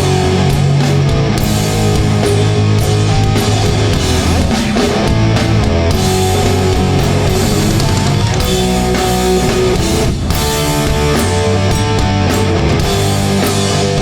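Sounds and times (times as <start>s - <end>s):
bass guitar: 0.0s - 14.0s
distorted electric guitars: 0.0s - 14.0s
drum kit: 0.0s - 14.0s
punk band playing live: 0.0s - 14.0s.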